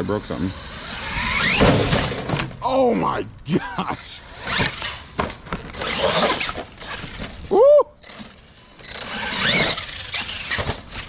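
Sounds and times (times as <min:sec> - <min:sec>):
electric toy truck motor revving: 0:00.0 - 0:02.2, 0:04.2 - 0:11.0.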